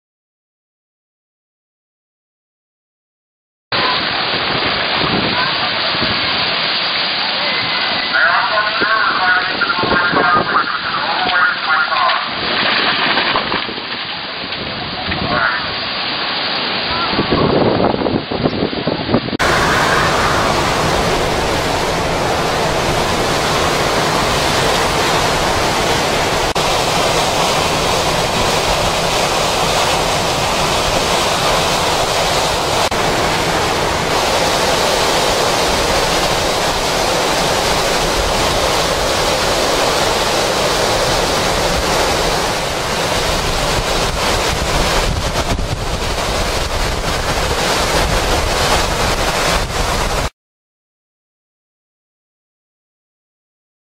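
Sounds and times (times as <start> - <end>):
driving rain: 3.8 - 18.3, 19.4 - 50.3
hurricane wind: 3.8 - 50.3.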